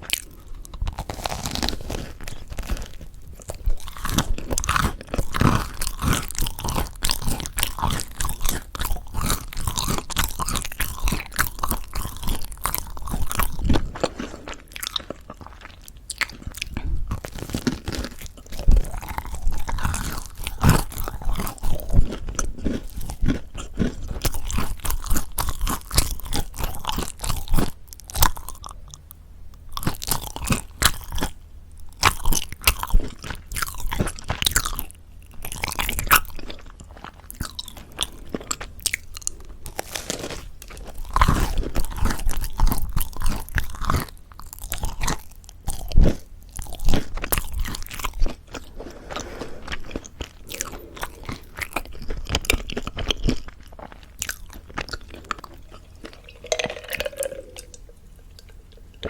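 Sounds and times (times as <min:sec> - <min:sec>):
crunching crispy bread crust: 0:00.0 - 0:29.0, 0:29.7 - 0:59.0
chewing: 0:00.0 - 0:59.0.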